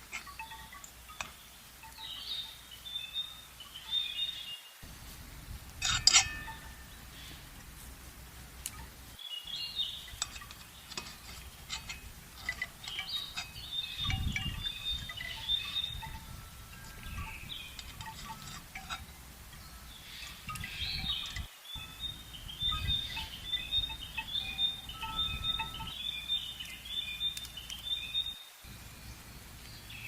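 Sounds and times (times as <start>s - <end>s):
light metallic clinks: 0.0s - 4.2s, 4.8s - 29.0s
small birds chirping: 0.0s - 30.0s.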